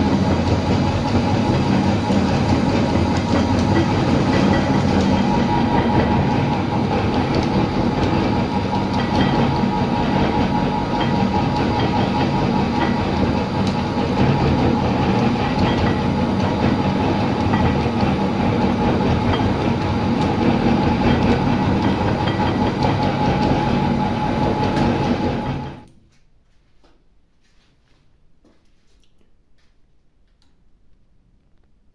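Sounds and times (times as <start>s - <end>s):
electric meat grinder running: 0.0s - 25.9s.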